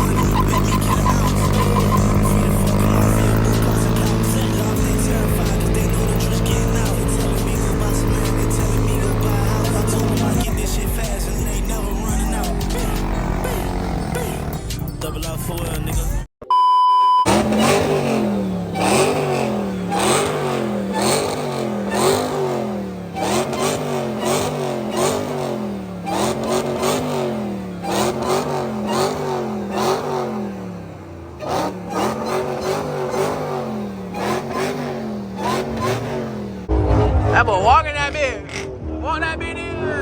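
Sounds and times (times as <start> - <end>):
exhaust cracks: 0.0 - 16.2, 17.3 - 40.0
car engine revving: 0.0 - 16.3, 17.3 - 40.0.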